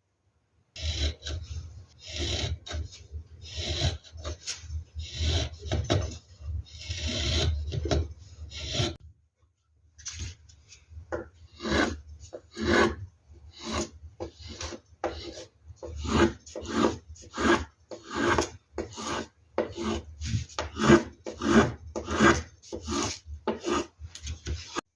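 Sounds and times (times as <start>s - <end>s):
hand tool rasping wood: 0.8s - 9.0s, 11.2s - 24.8s.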